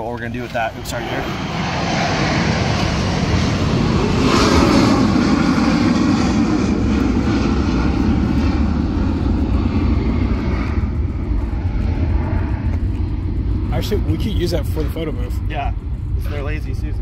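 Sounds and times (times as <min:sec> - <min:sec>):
loud engine roar passing by: 0:00.6 - 0:17.0.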